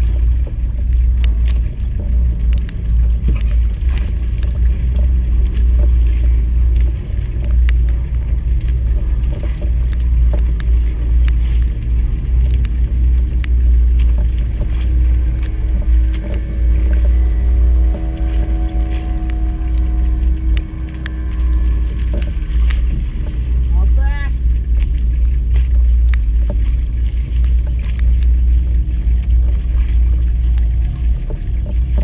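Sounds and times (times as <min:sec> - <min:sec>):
boat low rumble: 0:00.0 - 0:32.0
faint steady hum: 0:00.0 - 0:32.0
light ticks: 0:00.2 - 0:23.6, 0:24.8 - 0:32.0.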